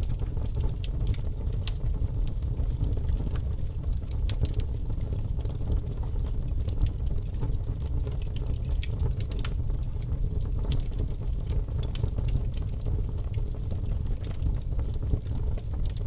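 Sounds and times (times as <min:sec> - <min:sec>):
wood crackling and popping: 0:00.0 - 0:16.0.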